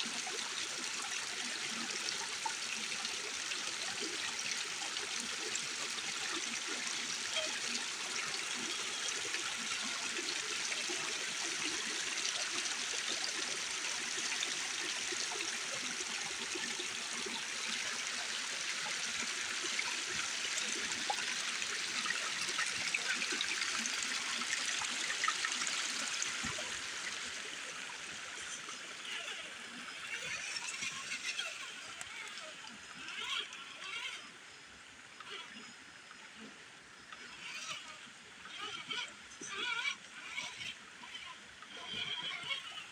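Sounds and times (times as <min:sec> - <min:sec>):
creek water trickling: 0:00.0 - 0:42.9.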